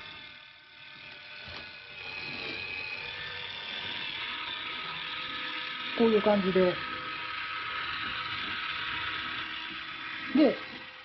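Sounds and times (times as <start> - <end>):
litter box rake motor running: 0.0 - 11.0.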